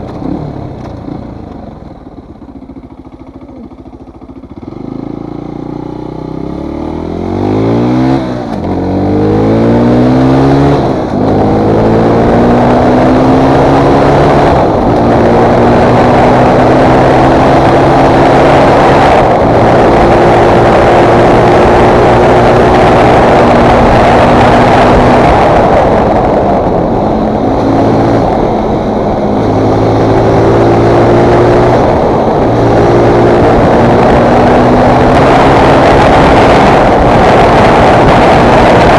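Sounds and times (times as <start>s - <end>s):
motorcycle engine accelerating: 0.0s - 38.9s
loud wind rush: 6.9s - 38.9s.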